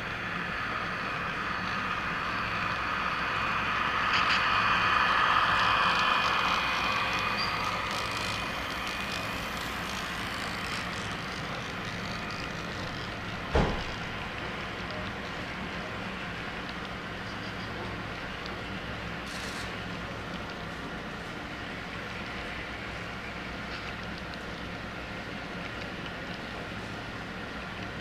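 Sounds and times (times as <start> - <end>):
model train running on track: 0.0 - 28.0.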